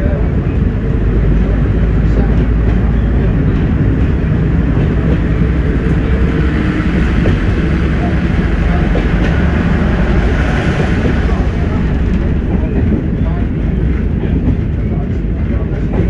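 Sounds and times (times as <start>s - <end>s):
diesel engine drone: 0.0s - 16.0s
train wheels rumbling on rail: 0.0s - 16.0s.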